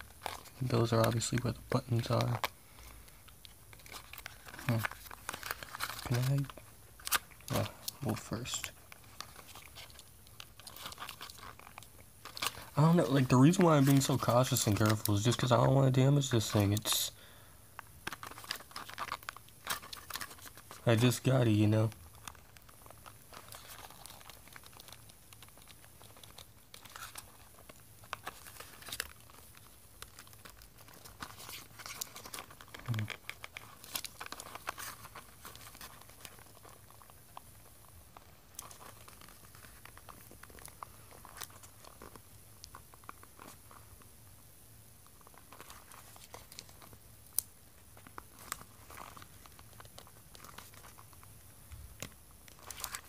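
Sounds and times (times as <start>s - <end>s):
packaging rustling and crinkling: 0.0s - 53.0s.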